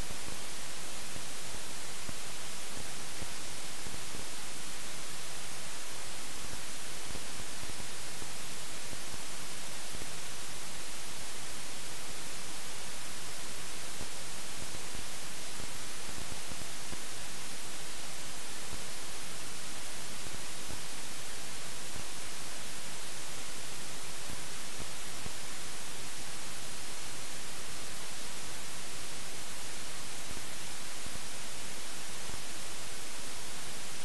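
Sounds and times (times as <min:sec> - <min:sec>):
electronic static hiss: 0:00.0 - 0:34.0.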